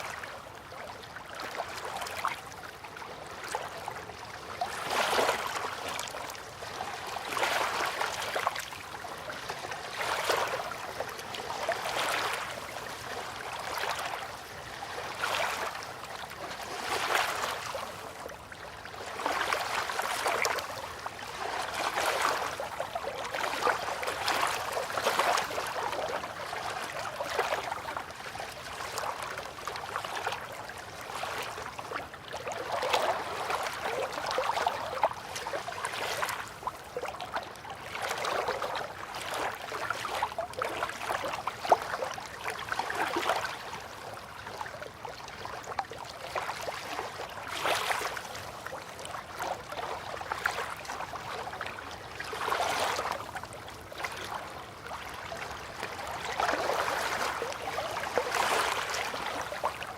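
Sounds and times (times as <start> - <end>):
river water lapping at bank: 0.0 - 59.9.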